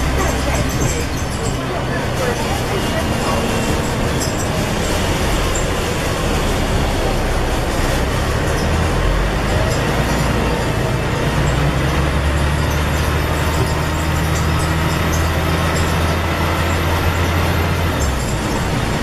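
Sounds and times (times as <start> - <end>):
diesel bus engine running: 0.0 - 19.0
road and body noise: 0.0 - 19.0.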